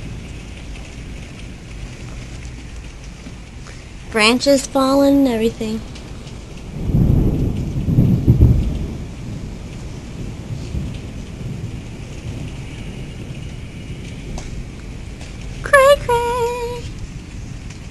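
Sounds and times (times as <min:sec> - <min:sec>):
heavy rain pouring: 0:00.0 - 0:17.9
low rumble of thunder: 0:00.0 - 0:17.9.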